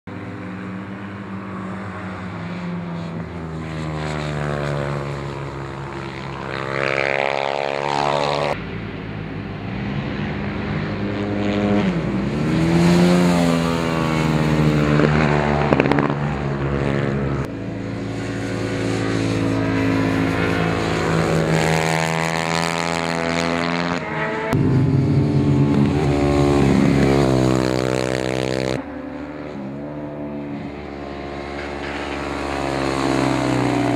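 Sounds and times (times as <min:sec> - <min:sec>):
race motorcycle engine passing: 0:00.1 - 0:33.9.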